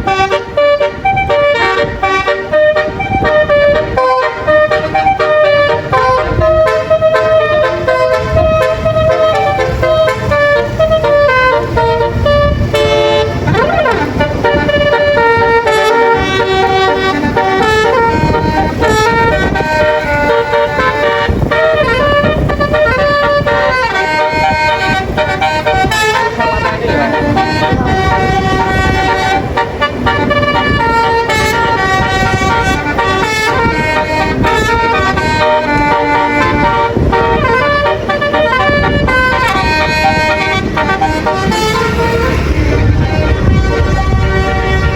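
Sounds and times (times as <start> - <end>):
bus musical horn playing tune: 0.0 - 44.9
low rumble of road traffic: 0.0 - 44.9.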